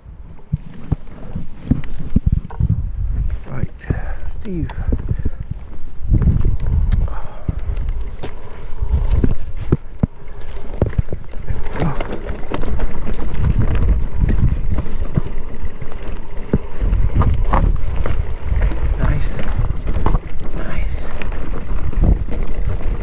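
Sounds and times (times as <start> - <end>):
wind buffeting microphone: 0.0 - 23.0
bike knocks and rattles: 0.2 - 23.0.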